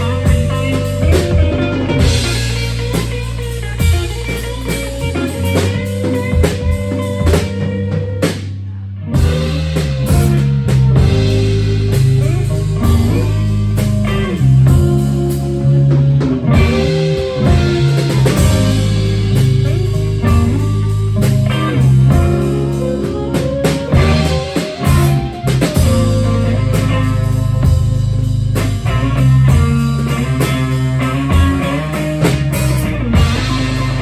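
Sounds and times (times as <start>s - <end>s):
bass guitar: 0.0s - 34.0s
drum kit: 0.0s - 34.0s
electric guitar: 0.0s - 34.0s
lead guitar line with bending notes: 0.0s - 34.0s.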